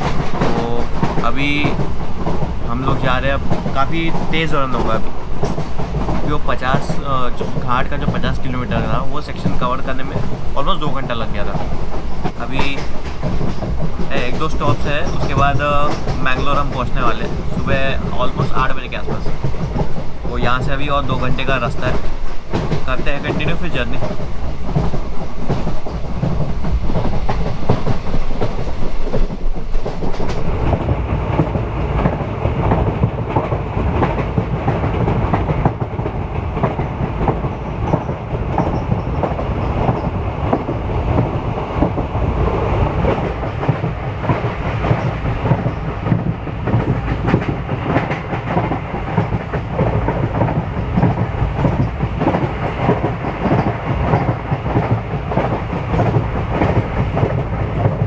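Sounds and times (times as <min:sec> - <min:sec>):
train rumble: 0:00.0 - 0:58.0
wheels clattering over rails: 0:00.0 - 0:58.0.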